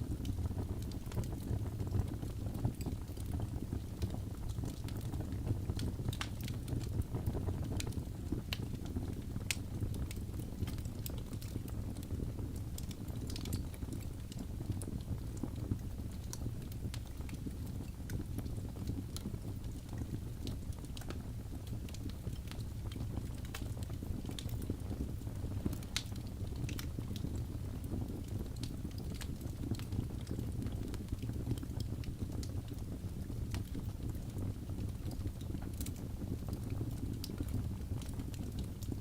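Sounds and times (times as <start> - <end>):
burning logs crackling and popping: 0.0 - 39.0
low rumble of flame: 0.0 - 39.0.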